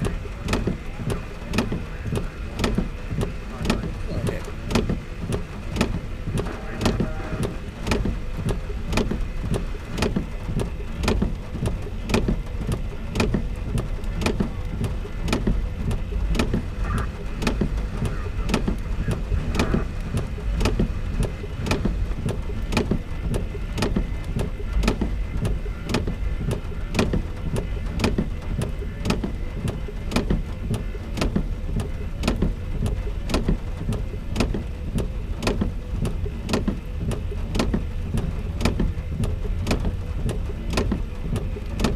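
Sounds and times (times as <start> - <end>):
low rumble: 0.0 - 41.9
raindrops ticking on car roof: 0.0 - 41.9.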